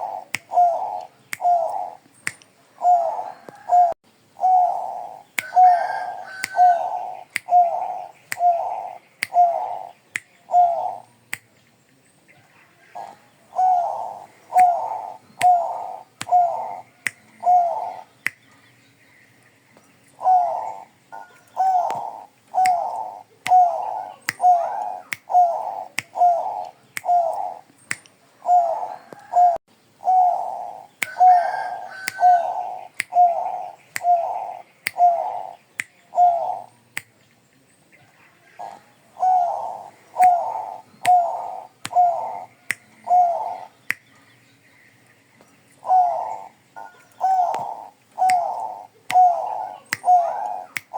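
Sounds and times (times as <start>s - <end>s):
dove cooing: 0.0s - 2.0s, 2.7s - 11.1s, 12.6s - 18.1s, 20.2s - 27.7s, 28.4s - 36.7s, 38.4s - 43.8s, 45.8s - 50.9s.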